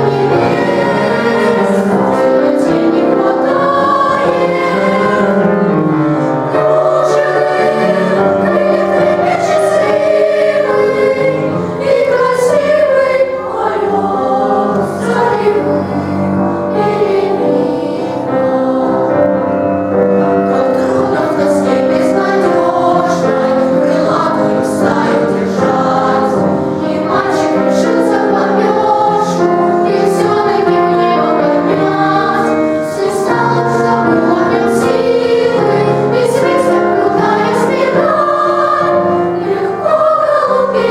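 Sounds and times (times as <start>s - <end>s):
boys' choir singing: 0.0s - 40.9s.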